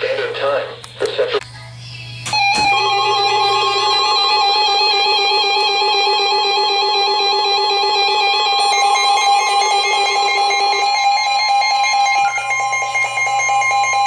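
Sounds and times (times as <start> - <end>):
emergency alert two-tone signal: 2.3 - 14.0.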